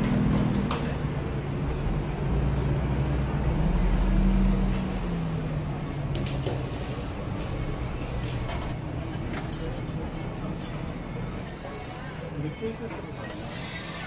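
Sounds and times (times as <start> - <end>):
vehicle engine rumble: 0.0 - 11.6.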